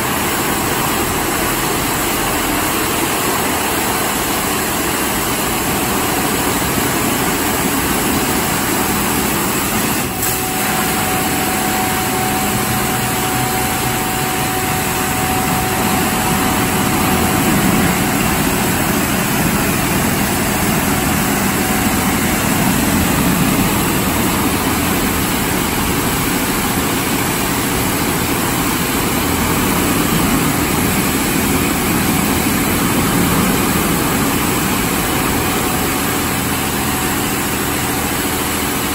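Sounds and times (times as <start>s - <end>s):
faint steady whine: 0.0s - 38.9s
water spray hissing on truck: 0.0s - 38.9s.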